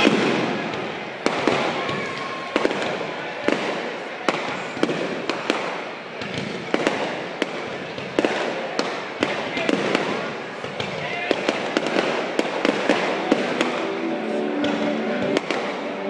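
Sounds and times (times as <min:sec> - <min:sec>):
continuous wash of noise: 0:00.0 - 0:16.0
fireworks bursting: 0:00.0 - 0:16.0.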